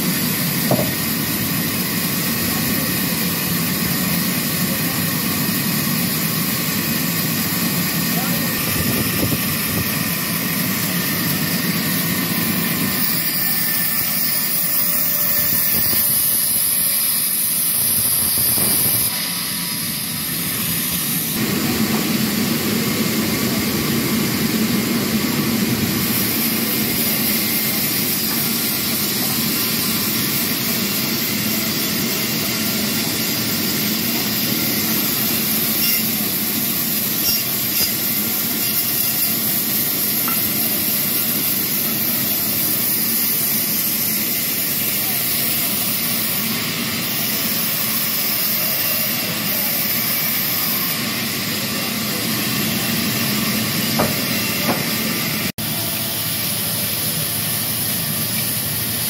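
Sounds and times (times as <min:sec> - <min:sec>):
band saws cutting logs: 0:00.0 - 0:59.0.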